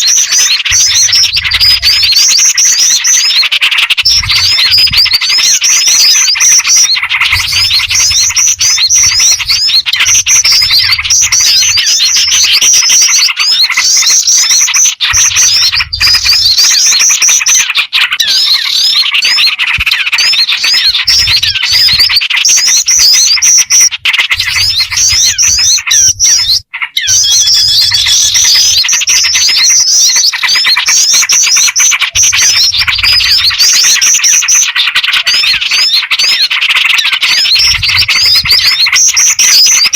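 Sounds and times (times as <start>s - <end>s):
flycatcher-shrike calls: 0.0s - 36.5s
bulbul calls: 0.0s - 39.9s
small birds chattering: 0.0s - 39.9s.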